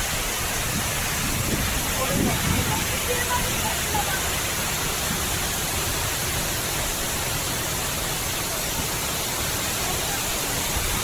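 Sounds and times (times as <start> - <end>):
water cascading down fountain wall: 0.0 - 11.0.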